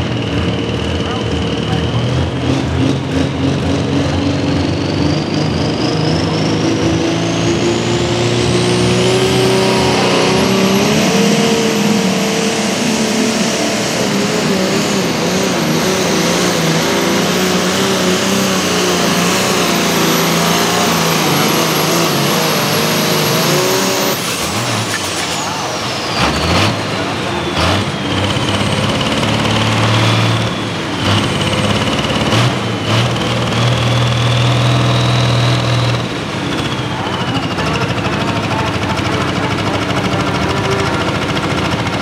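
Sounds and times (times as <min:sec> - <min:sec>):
tractor engine at full power: 0:00.0 - 0:42.0
turbocharger whine: 0:00.0 - 0:42.0.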